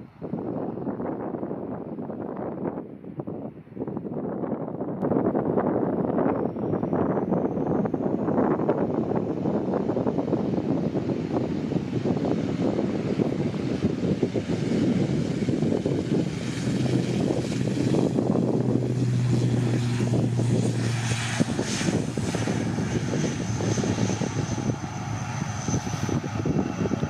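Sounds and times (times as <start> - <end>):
turboprop airliner propeller drone: 0.0 - 27.0.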